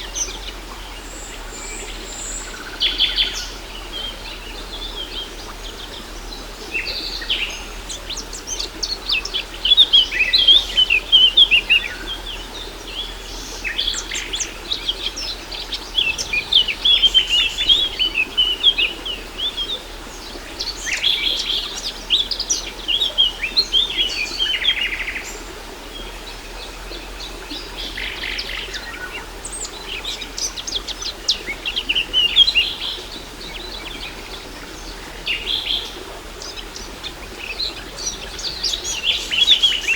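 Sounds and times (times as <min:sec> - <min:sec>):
falling water rushing: 0:00.0 - 0:39.9
songbirds chirping: 0:00.0 - 0:39.9.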